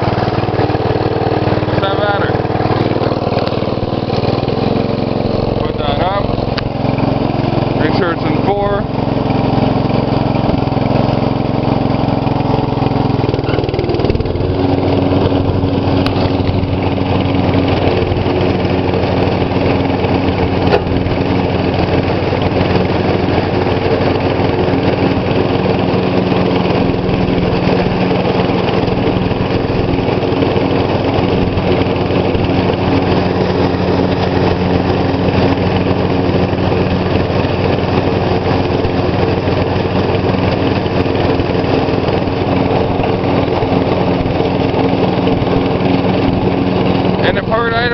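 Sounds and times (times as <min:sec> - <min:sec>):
lawn tractor engine mowing: 0:00.0 - 0:47.9.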